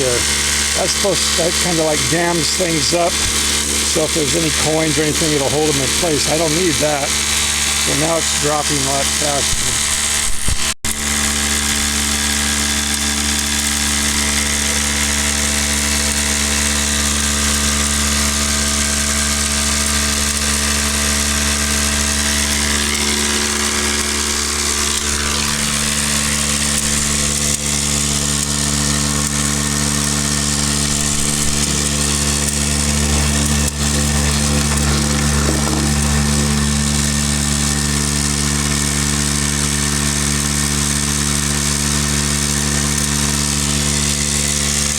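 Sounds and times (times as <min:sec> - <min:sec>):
motor hum: 0:00.0 - 0:44.9.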